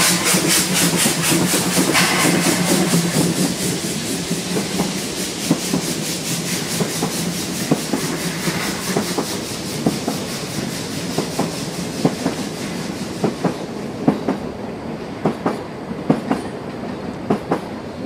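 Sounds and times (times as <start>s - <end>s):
steam hiss: 0.0s - 14.5s
steam locomotive exhaust beats: 0.0s - 14.5s.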